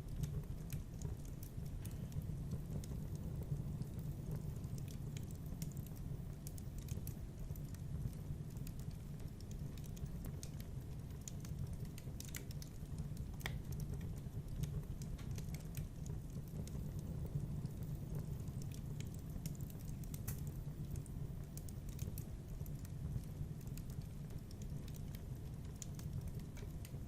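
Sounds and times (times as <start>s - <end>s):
fire rumbling: 0.0s - 27.0s
wood crackles and snaps: 0.0s - 27.0s.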